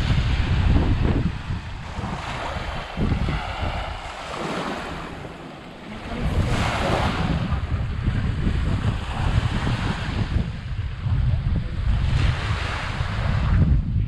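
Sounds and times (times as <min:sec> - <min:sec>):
small waves washing on sand: 0:00.0 - 0:13.8
wind buffeting microphone: 0:00.0 - 0:14.0.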